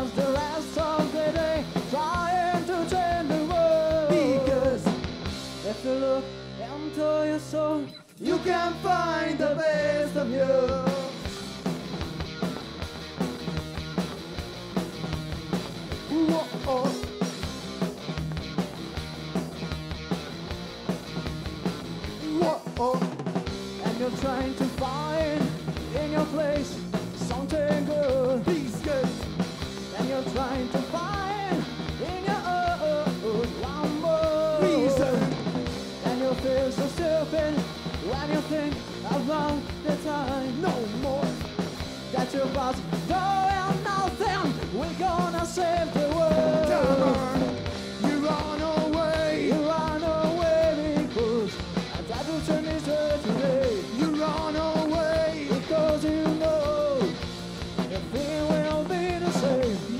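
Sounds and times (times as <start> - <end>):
man singing: 0.0 - 5.0, 5.6 - 11.2, 16.1 - 17.3, 22.2 - 41.5, 42.1 - 57.2, 57.8 - 59.9
live rock band playing: 0.0 - 59.9.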